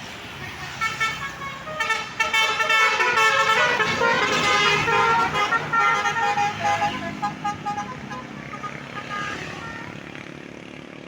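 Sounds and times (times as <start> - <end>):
bus engine running: 0.0 - 10.9
bus horn playing a melody: 0.4 - 10.0.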